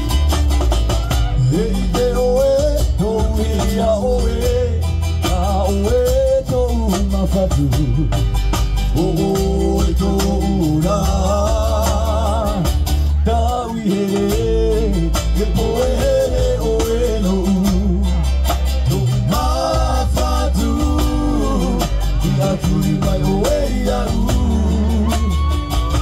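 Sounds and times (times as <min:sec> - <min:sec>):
bass line: 0:00.0 - 0:26.0
strummed acoustic guitar and ukuleles: 0:00.0 - 0:26.0
men singing: 0:01.2 - 0:26.0.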